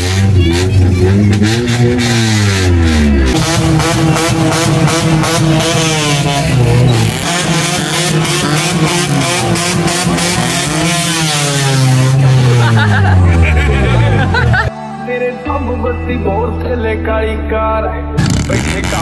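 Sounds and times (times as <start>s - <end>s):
car and motorcycle engines revving: 0.0s - 14.7s, 18.2s - 19.0s.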